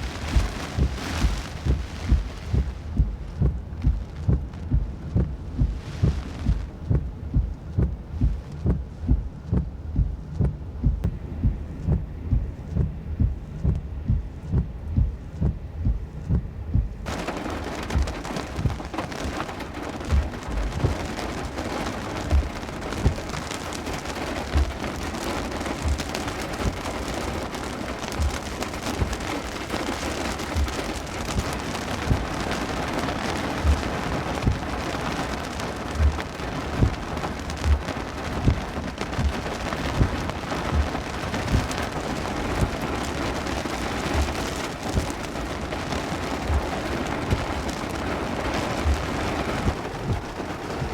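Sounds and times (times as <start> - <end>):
heavy rain pouring: 0.0 - 13.8, 17.0 - 50.9
low thumps: 0.0 - 27.0, 28.0 - 29.7, 30.3 - 32.7, 33.5 - 34.8, 35.4 - 42.9, 46.3 - 47.8, 48.7 - 50.9.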